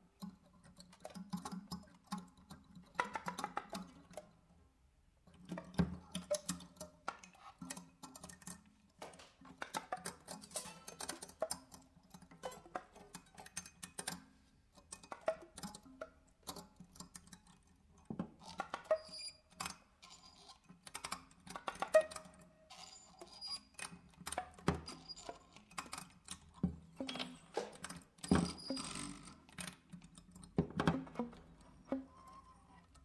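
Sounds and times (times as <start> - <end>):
prepared guitar clicks and rattles: 0.1 - 4.6, 5.2 - 33.0.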